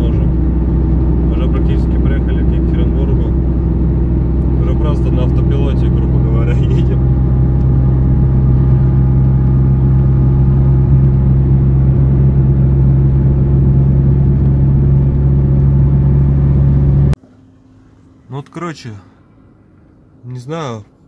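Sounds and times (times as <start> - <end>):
car cabin engine and road drone: 0.0 - 21.0.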